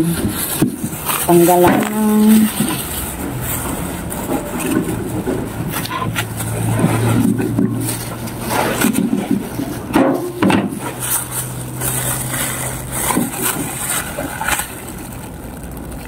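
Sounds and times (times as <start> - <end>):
plastic gloves rustling: 0.0 - 16.0.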